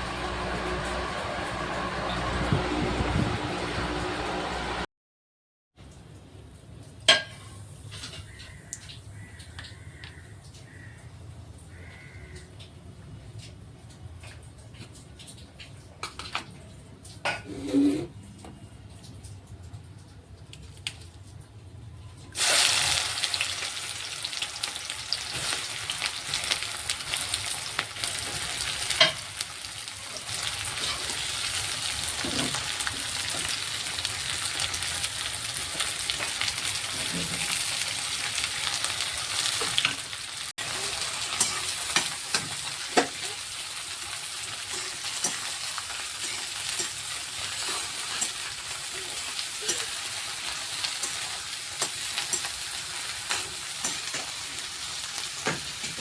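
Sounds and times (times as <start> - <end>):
okra sizzling in hot oil: 0.0 - 4.8, 6.5 - 12.0, 17.0 - 18.4, 22.3 - 56.0.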